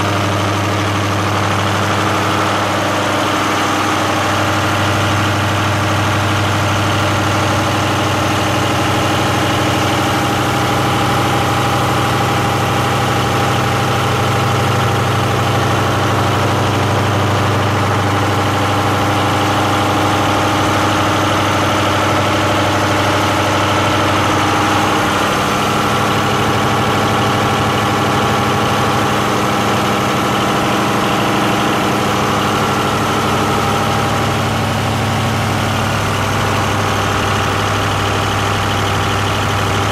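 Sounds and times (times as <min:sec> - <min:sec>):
diesel generator humming: 0:00.0 - 0:39.9.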